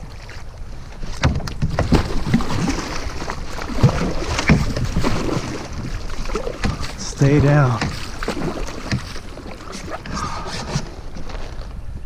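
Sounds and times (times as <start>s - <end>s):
water splashing: 0.0s - 11.5s
knocks and thumps on kayak: 1.0s - 11.7s.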